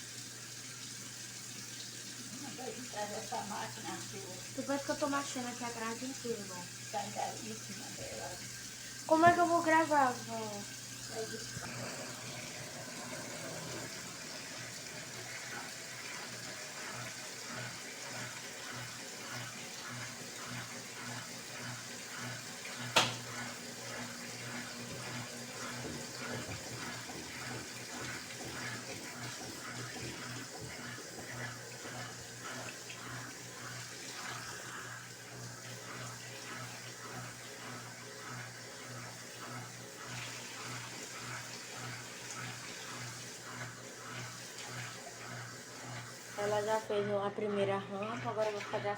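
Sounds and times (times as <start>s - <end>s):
motor hum: 0.0s - 48.9s
water sloshing in washing machine: 0.0s - 48.9s.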